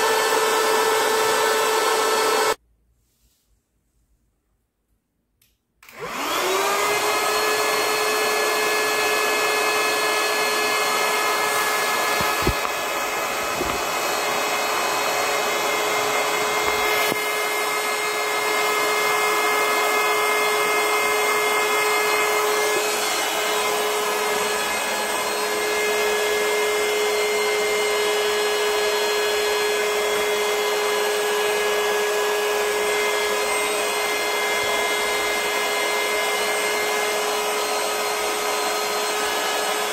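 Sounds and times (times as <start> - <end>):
electric air pump humming: 0.0 - 2.6, 5.9 - 39.9.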